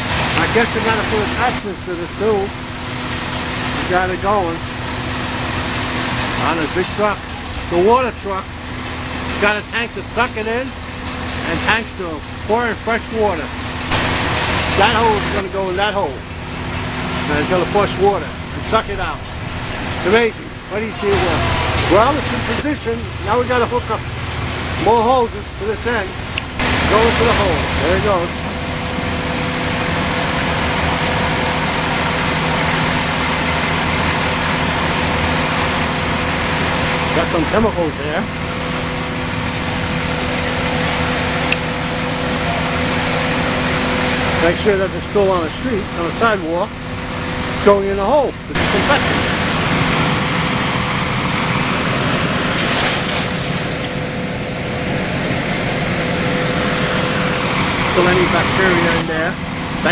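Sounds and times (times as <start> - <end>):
suction pump rushing: 0.0 - 59.9
truck engine hum: 0.0 - 59.9.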